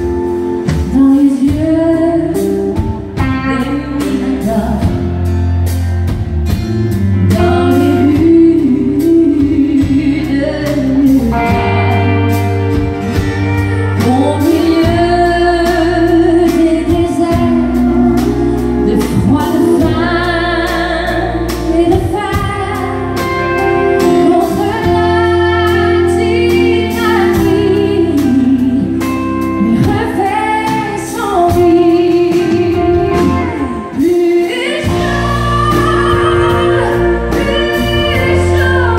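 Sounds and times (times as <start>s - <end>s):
woman singing: 0.0s - 5.4s, 7.2s - 38.9s
live country band: 0.0s - 38.9s.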